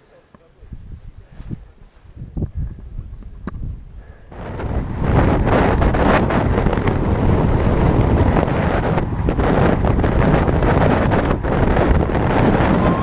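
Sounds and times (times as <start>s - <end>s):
wind rushing over microphone: 0.6s - 13.0s.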